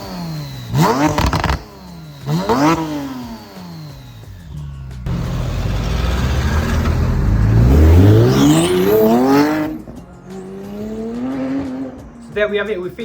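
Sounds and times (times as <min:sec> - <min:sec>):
sports car accelerating hard: 0:00.0 - 0:12.4.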